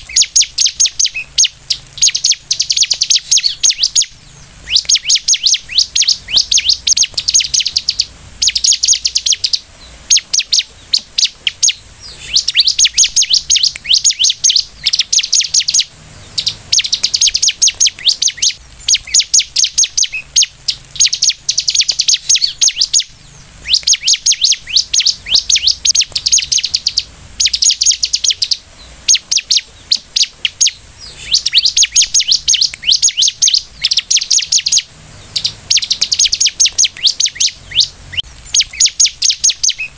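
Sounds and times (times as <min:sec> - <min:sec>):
bird high-pitched rattling trills: 0:00.0 - 0:39.9.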